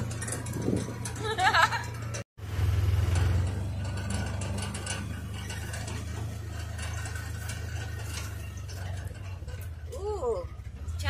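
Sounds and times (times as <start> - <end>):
cab rattling and clicking: 0.0 - 11.0
vehicle engine running: 0.0 - 11.0.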